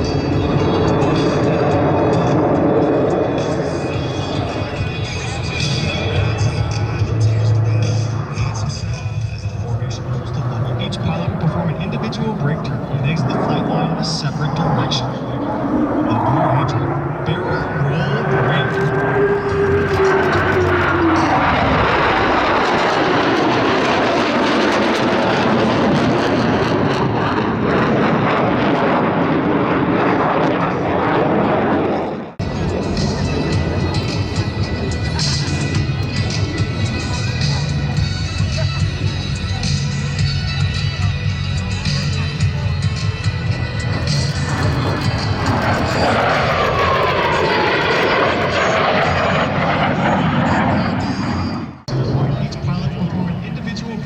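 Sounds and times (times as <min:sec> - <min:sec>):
fighter jets roaring: 0:00.0 - 0:38.5, 0:42.1 - 0:54.0.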